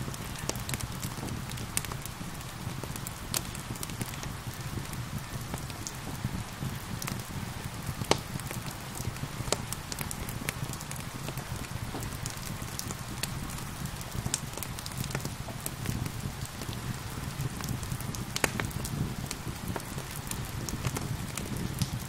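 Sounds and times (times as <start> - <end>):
gentle rain hiss: 0.0 - 22.0
wood fire crackling: 0.0 - 22.0.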